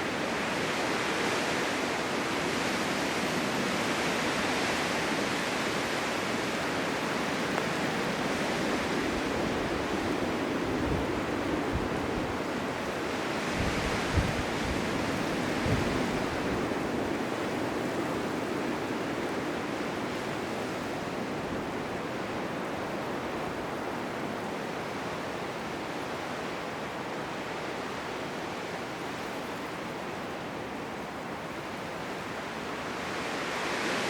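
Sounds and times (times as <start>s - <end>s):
low wind buffets: 0.0s - 34.0s.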